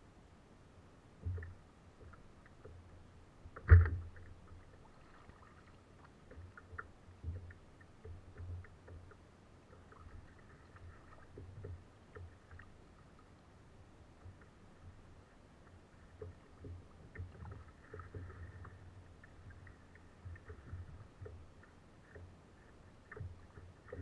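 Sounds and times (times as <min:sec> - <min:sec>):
soft bumps and small clicks: 0:01.2 - 0:13.4, 0:14.2 - 0:24.0.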